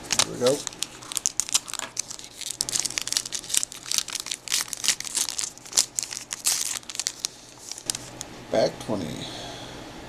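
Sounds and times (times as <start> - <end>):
foil wrapper crinkling and ripping: 0.0 - 8.2.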